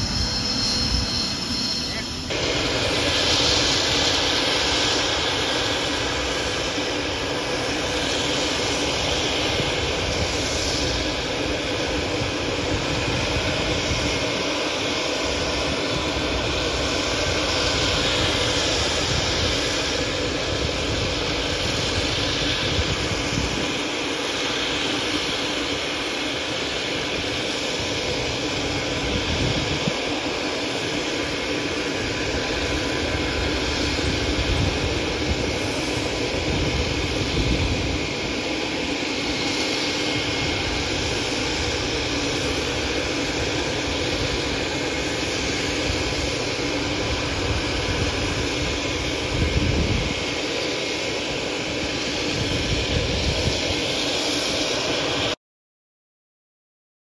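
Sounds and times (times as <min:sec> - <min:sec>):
wind buffeting microphone: 0:00.0 - 0:55.2
jet turbine whining: 0:00.0 - 0:55.4.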